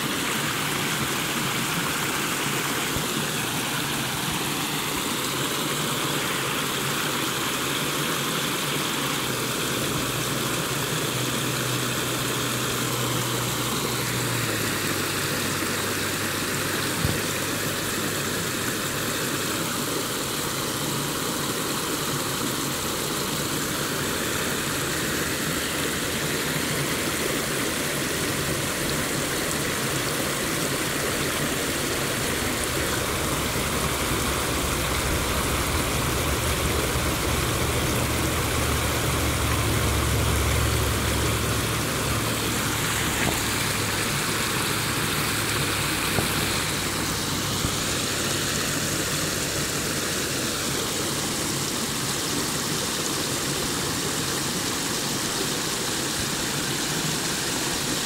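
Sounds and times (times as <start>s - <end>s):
creek water rushing over rocks: 0.0s - 58.0s.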